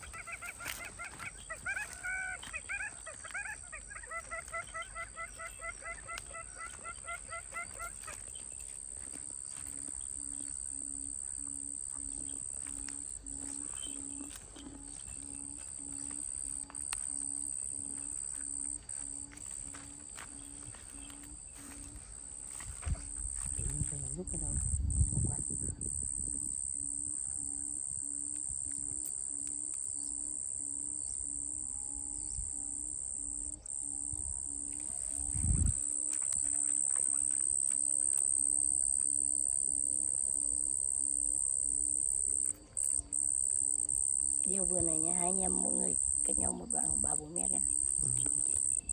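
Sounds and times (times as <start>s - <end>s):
insects droning: 0.0s - 48.9s
low pulsing tone: 9.5s - 48.9s.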